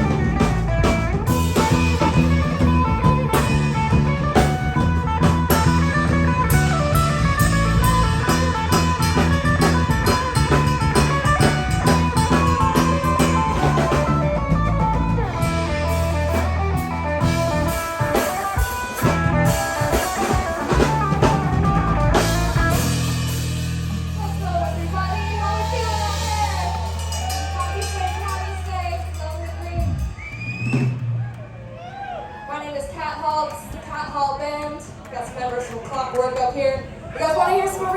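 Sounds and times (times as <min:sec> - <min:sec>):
electric guitar: 0:00.0 - 0:30.6
live rock band playing: 0:00.0 - 0:31.2.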